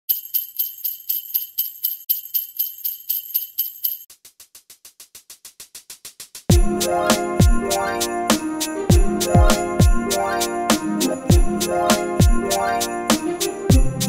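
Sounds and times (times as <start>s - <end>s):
sleigh bells shaking: 0.1s - 4.1s, 6.5s - 14.0s.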